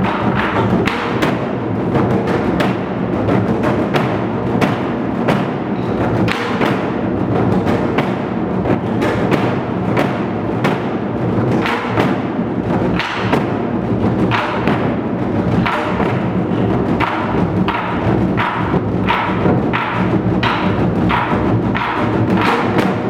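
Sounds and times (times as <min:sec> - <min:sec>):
barrel drums beating fast rhythm: 0:00.0 - 0:23.0
sharp drum clicks: 0:00.0 - 0:23.0.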